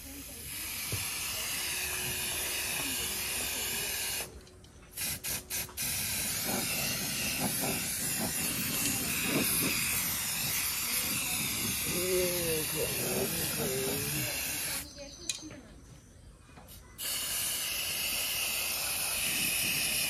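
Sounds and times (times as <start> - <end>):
spray paint can hissing: 0.0 - 14.8, 17.0 - 20.0.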